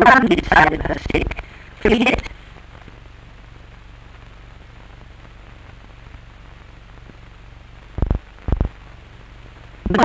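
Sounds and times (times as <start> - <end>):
film soundtrack hiss and hum: 0.0 - 10.0.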